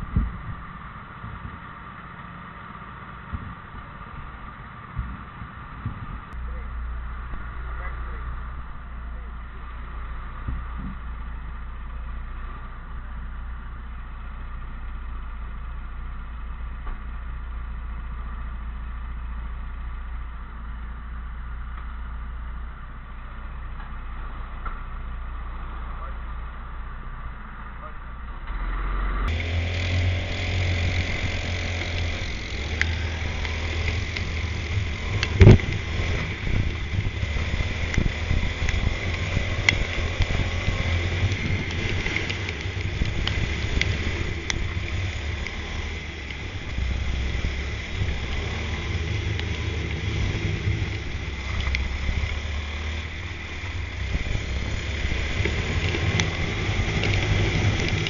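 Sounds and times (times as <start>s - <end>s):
low rumble: 0.0s - 58.0s
racing kart engine running: 0.0s - 58.0s.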